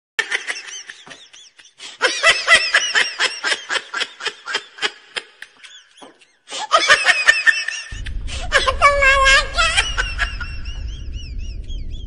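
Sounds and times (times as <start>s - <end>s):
high-pitched giggling laughter: 0.2s - 12.0s.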